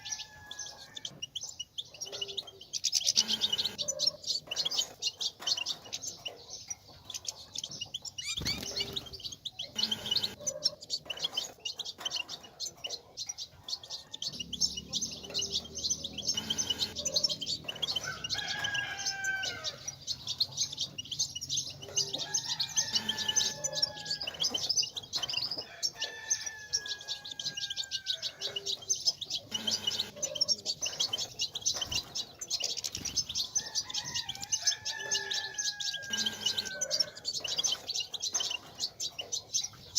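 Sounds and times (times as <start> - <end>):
drawn-out falling bird calls: 0.0 - 39.8
finches twittering and chirping: 0.0 - 39.9.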